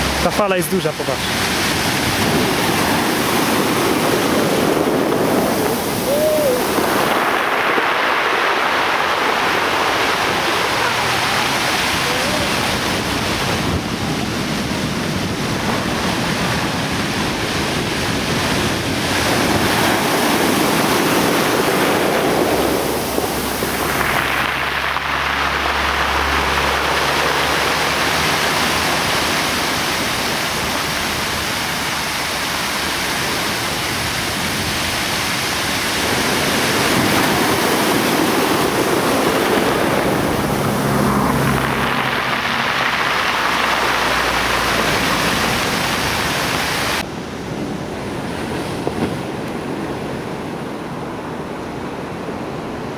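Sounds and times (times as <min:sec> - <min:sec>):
waves washing over pebbles: 0:00.0 - 0:52.9.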